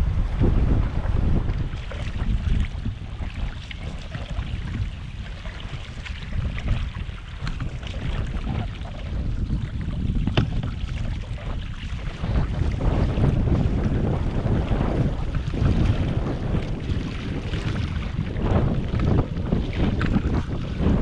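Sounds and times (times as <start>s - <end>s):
water splashing around canoe: 0.0s - 21.0s
wind rumbling on microphone: 0.0s - 21.0s.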